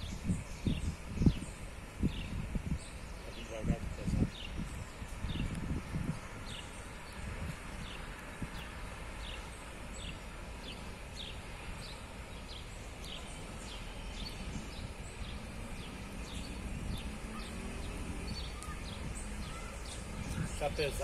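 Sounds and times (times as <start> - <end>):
bird chirping: 0.0 - 21.0
low outdoor rumble: 0.0 - 21.0.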